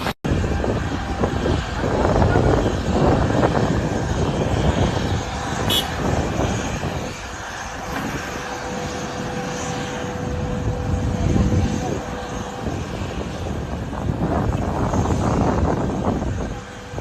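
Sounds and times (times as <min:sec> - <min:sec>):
jet engine whine: 0:00.0 - 0:17.0
jet engines rumbling: 0:00.0 - 0:17.0.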